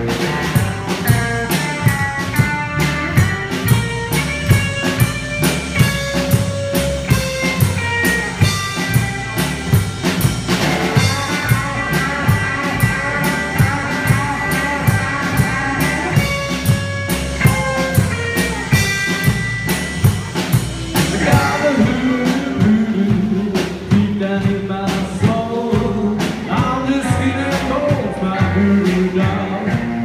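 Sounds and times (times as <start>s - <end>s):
drum kit steady beat: 0.0s - 30.0s
electric guitar: 0.0s - 30.0s
upright double bass: 0.0s - 30.0s.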